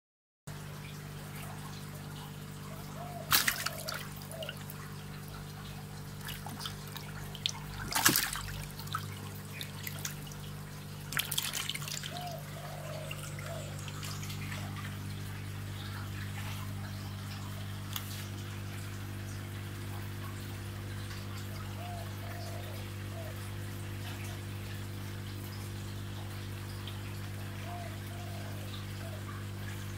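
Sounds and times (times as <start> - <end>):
steady low hum: 0.5 - 29.9
water splashing in fish tank: 0.5 - 29.9
water trickling: 0.5 - 29.9.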